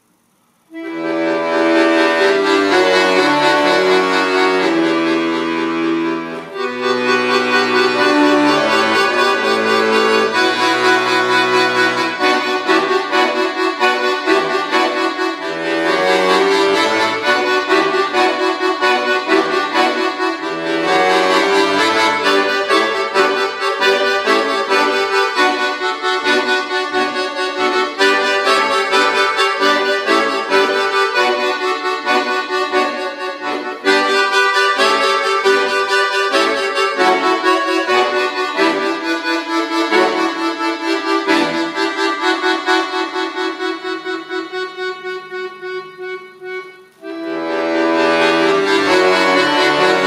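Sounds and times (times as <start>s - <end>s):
button accordion playing classical: 0.7s - 50.0s.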